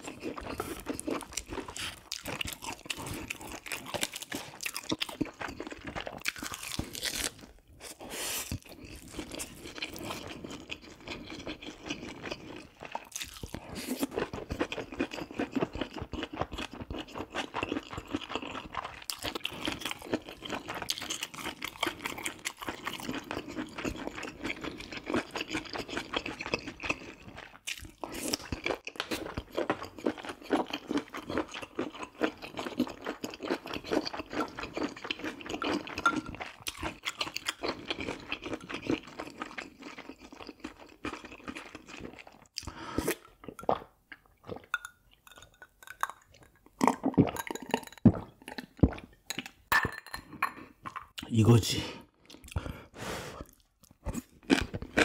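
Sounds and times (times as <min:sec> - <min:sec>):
person chewing food: 0:00.0 - 0:51.3, 0:52.1 - 0:55.0.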